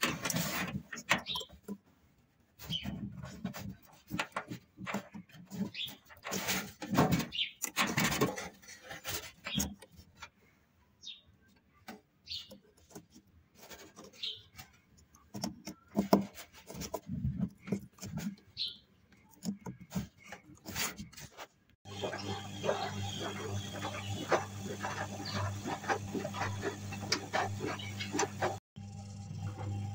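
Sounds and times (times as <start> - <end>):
knocks clicks and scraping: 0.0 - 1.8, 2.6 - 10.5, 11.4 - 28.7.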